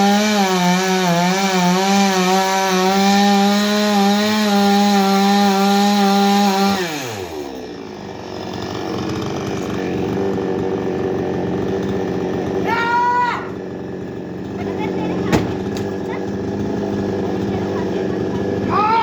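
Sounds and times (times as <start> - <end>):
chainsaw engine revving and idling: 0.0 - 19.0.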